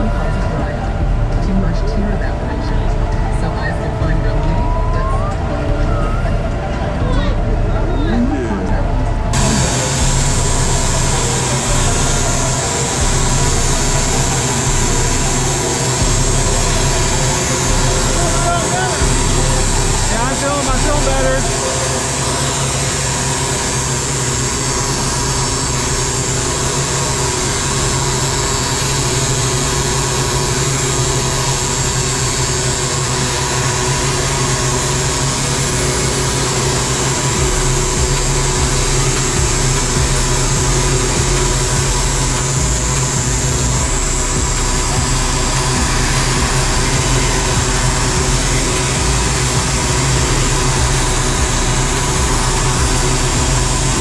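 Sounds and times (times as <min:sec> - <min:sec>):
heavy engine machinery droning: 0:00.0 - 0:54.0.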